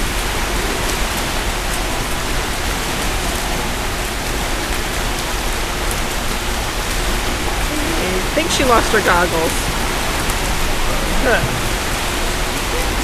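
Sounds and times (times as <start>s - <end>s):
swimmers splashing water: 0.0s - 13.0s.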